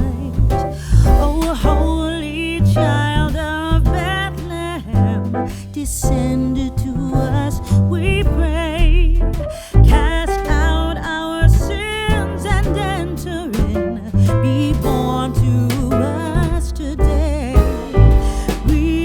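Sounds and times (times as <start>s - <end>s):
bass line: 0.0s - 19.0s
person singing: 0.0s - 19.0s.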